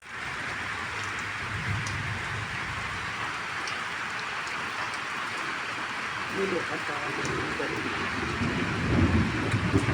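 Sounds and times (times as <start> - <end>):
steady rainfall hiss: 0.0 - 9.9.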